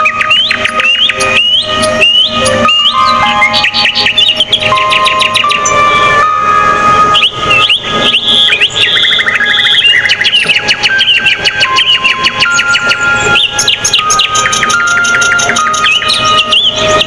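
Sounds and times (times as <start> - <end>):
songbirds chirping and trilling: 0.0 - 17.0.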